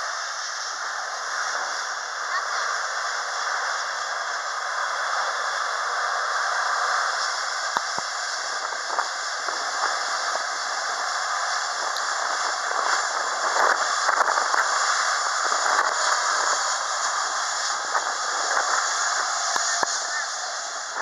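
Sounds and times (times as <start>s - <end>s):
jet engines hiss and whine: 0.0s - 21.0s.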